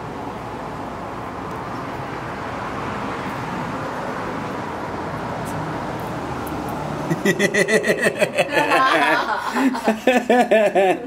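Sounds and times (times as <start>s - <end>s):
steady rushing background noise: 0.0s - 10.9s.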